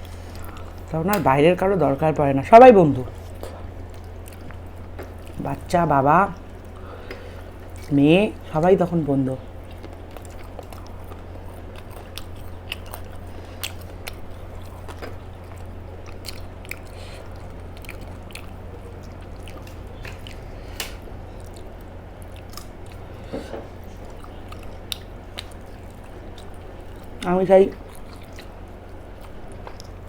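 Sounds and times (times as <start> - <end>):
person chewing food: 0.0 - 0.9, 3.0 - 5.4, 6.3 - 7.9, 9.4 - 30.0
steady low hum: 0.0 - 30.0.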